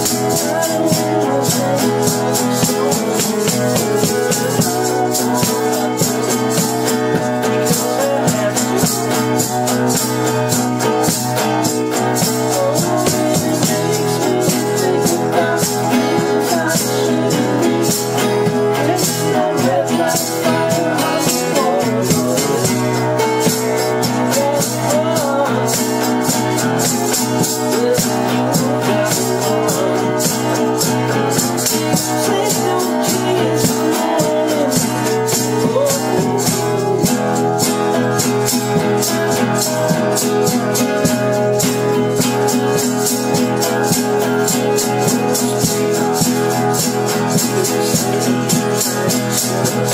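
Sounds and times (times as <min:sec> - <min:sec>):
acoustic guitar strumming: 0:00.0 - 0:49.9
shaker rattling: 0:00.0 - 0:49.9.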